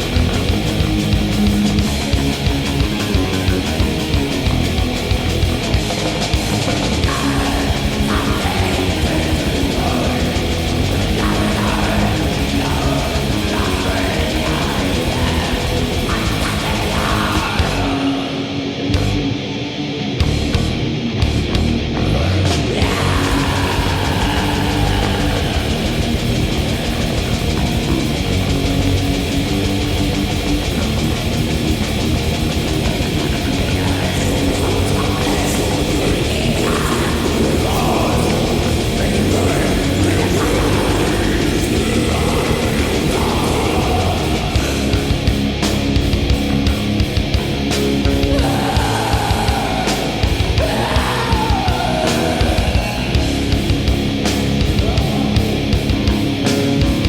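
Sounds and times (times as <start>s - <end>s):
drum kit playing: 0.0s - 18.0s, 22.6s - 57.0s
distorted electric guitars: 0.0s - 57.0s.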